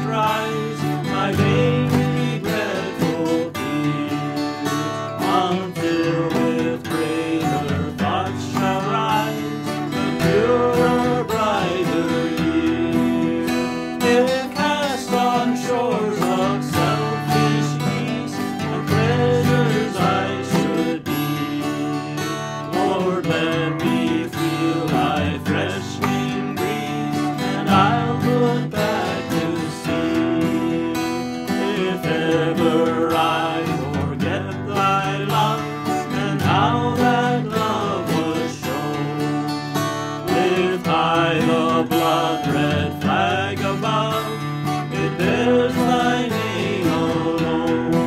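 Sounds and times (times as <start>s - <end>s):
acoustic guitars strummed: 0.0s - 48.0s
men singing a hymn: 0.0s - 48.0s.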